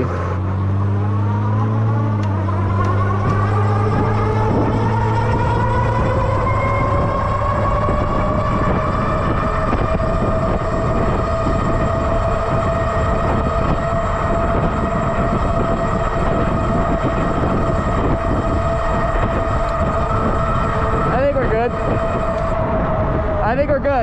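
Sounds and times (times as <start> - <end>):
wind rumble on microphone: 0.0 - 24.0
electric bike motor whining: 0.6 - 24.0.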